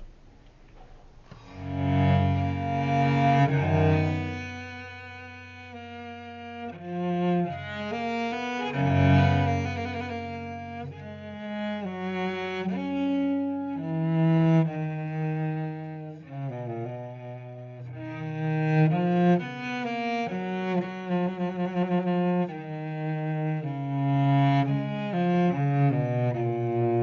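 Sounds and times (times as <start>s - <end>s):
slow bowed string music: 1.3s - 27.0s.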